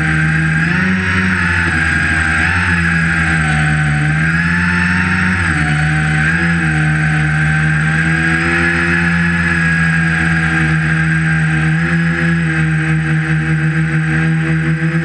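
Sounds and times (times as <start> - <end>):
electric motors buzzing: 0.0 - 15.0.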